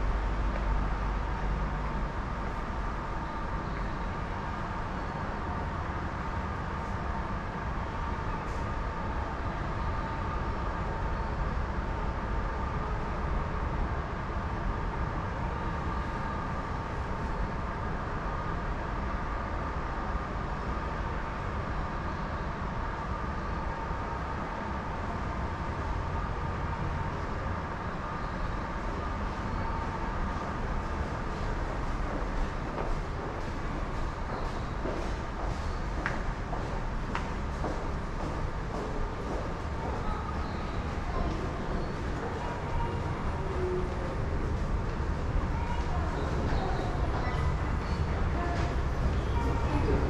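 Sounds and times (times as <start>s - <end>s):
low rumble and hum: 0.0s - 50.0s.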